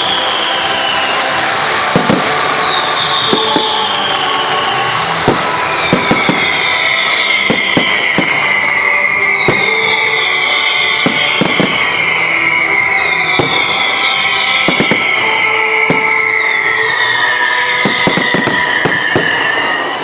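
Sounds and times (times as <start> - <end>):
fireworks bangs and crackles: 0.0 - 20.0
loud show music: 0.0 - 20.0.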